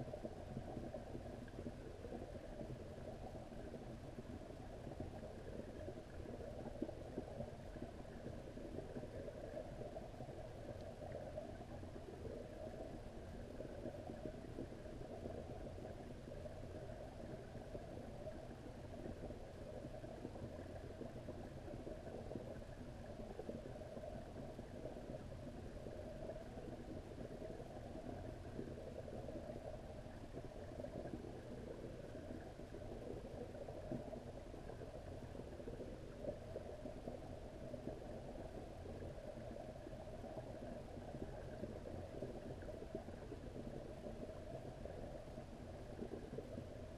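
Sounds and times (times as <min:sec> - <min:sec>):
underwater rumble and hum: 0:00.0 - 0:46.9.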